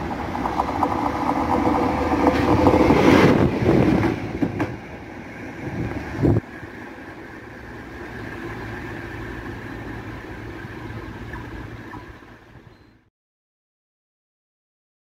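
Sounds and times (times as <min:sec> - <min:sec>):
electric locomotive rumble: 0:00.0 - 0:13.1.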